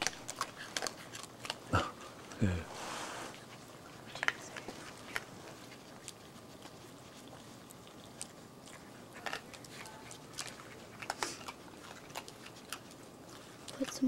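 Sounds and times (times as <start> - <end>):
animals crunching kibble: 0.0 - 14.0.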